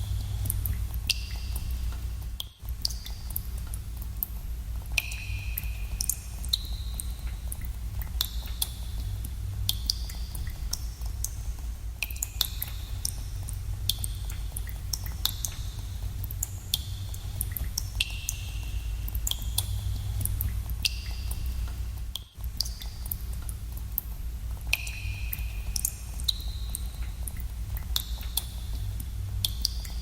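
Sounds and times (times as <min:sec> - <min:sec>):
low rumble of cave air: 0:00.0 - 0:30.0
water drops dripping in cave: 0:00.0 - 0:30.0.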